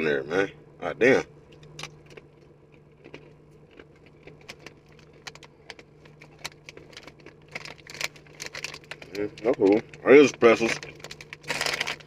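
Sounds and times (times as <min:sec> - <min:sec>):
steady low hum: 0:00.0 - 0:12.0
crunchy snack being chewed: 0:01.5 - 0:12.0.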